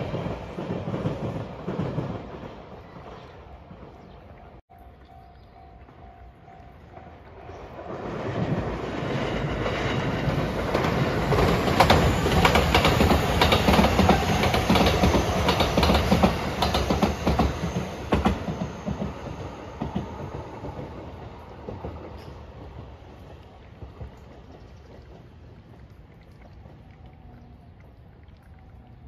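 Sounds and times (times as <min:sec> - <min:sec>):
electric train passing: 0:00.0 - 0:25.9
wheels clicking over rail joints: 0:00.0 - 0:25.9.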